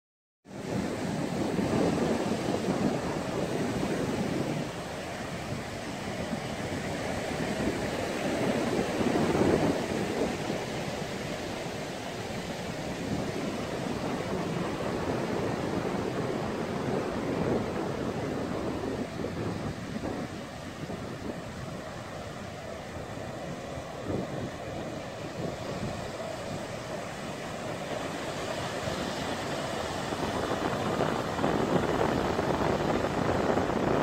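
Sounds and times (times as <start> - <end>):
ocean waves breaking on beach: 0.5 - 34.0.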